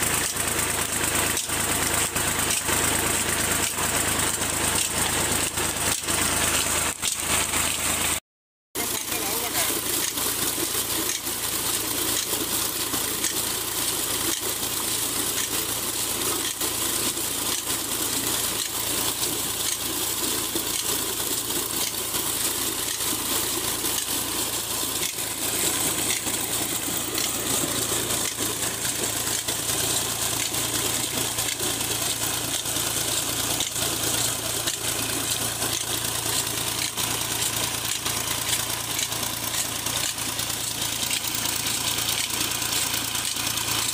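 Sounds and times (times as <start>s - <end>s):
tractor diesel engine running: 0.0s - 8.2s, 8.8s - 43.9s
water gushing into tank: 0.0s - 8.2s, 8.8s - 43.9s.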